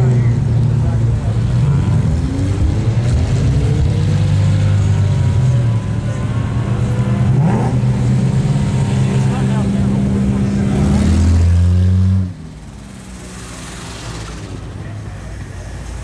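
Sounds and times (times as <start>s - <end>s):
car engine revving: 0.0s - 14.9s
car engines running: 0.0s - 16.0s.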